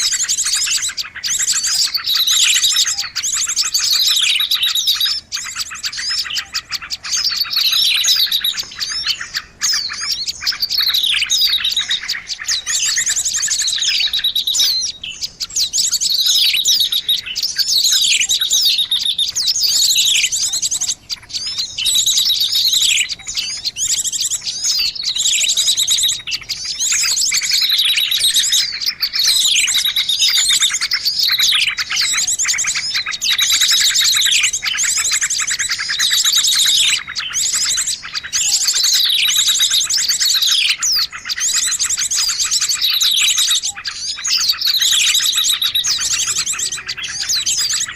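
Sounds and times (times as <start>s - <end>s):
small birds chirping chorus: 0.0s - 47.9s.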